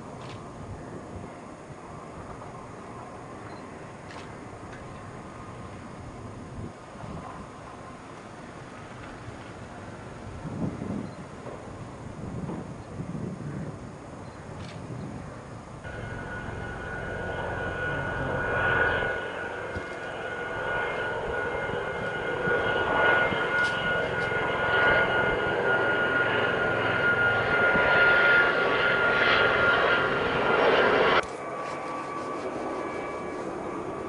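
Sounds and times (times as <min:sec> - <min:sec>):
engine running with high whine: 0:00.0 - 0:34.0.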